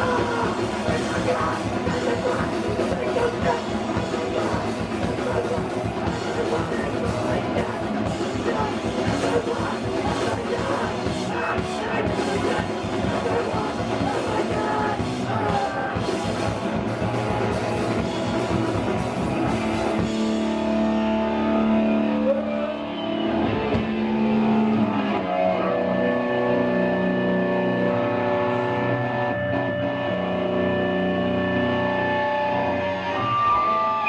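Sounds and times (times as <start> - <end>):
distorted guitars: 0.0 - 34.0
drums: 0.0 - 34.0.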